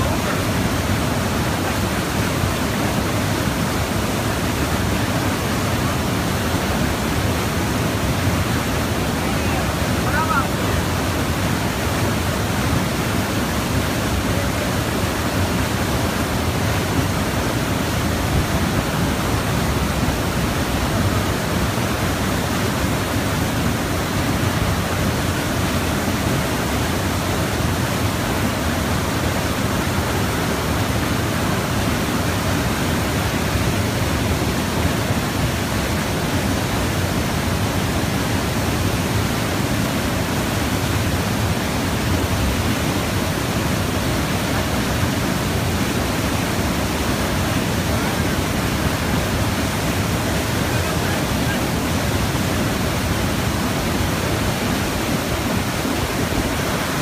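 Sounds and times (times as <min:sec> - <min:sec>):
water rushing through turbine: 0:00.0 - 0:57.0.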